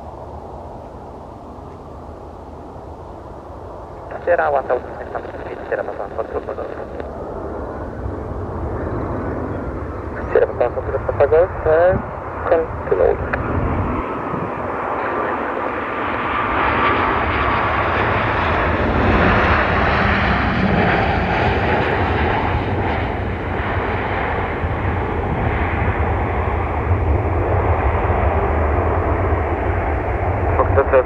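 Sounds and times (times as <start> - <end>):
airliner engines droning: 0.0 - 31.0.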